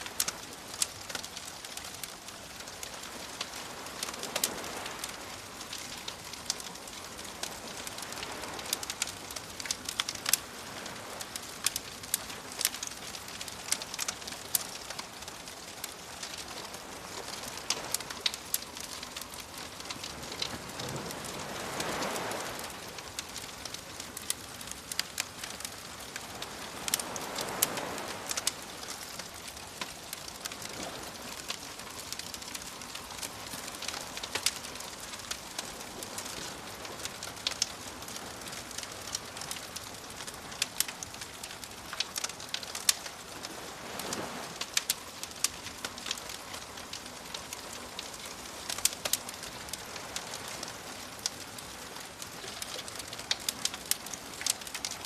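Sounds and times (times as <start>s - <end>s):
campfire crackling and popping: 0.0s - 55.0s
soft waves washing in: 0.0s - 55.0s.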